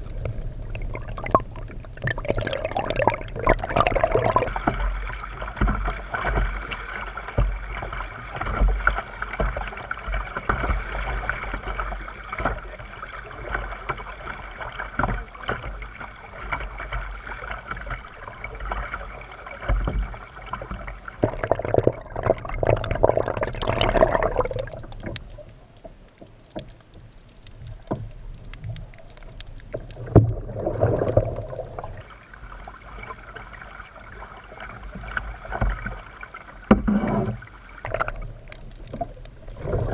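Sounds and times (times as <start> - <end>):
water swishes: 0.0 - 39.9
paddle strokes splashing: 0.9 - 25.4, 29.6 - 39.9.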